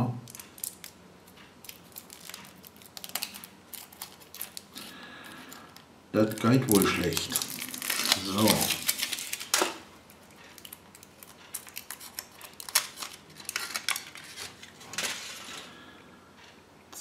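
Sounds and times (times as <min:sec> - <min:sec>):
foil wrapper crinkling: 0:00.3 - 0:01.0, 0:01.6 - 0:15.6.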